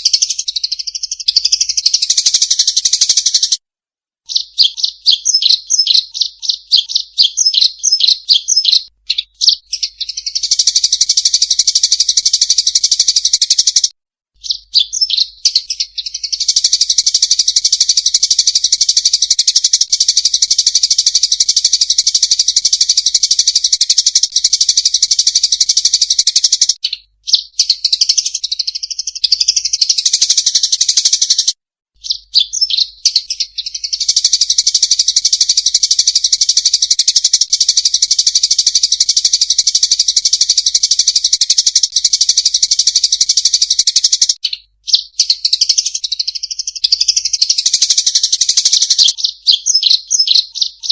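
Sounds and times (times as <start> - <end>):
sparrows chirping and chattering: 0.0 - 3.6, 4.3 - 50.9.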